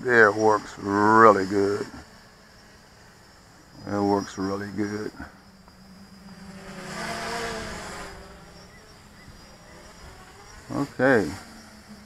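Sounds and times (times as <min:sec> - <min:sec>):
quadcopter buzzing in flight: 0:00.0 - 0:12.0.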